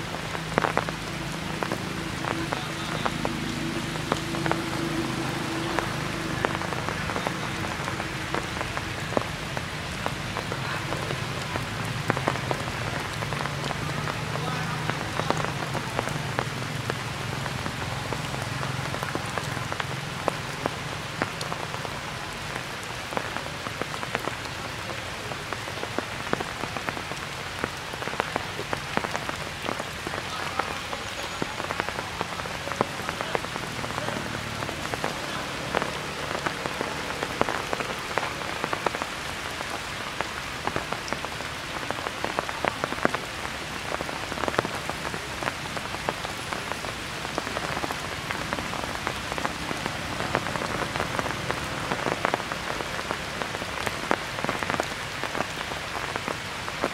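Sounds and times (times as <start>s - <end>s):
rain falling on leaves: 0.0s - 56.9s
sharp raindrop hits: 0.0s - 56.9s.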